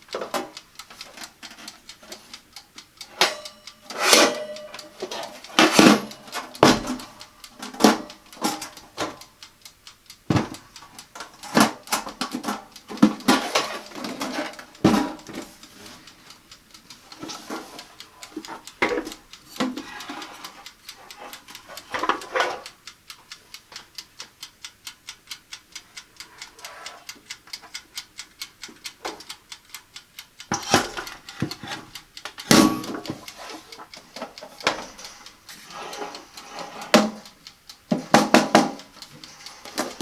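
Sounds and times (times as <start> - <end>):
timer ticking: 0.0 - 40.0.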